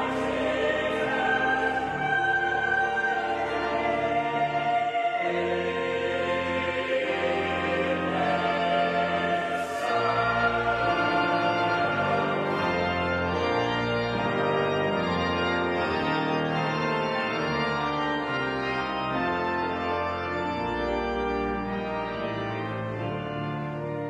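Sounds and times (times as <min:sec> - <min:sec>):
organ playing sustained chords: 0:00.0 - 0:24.0.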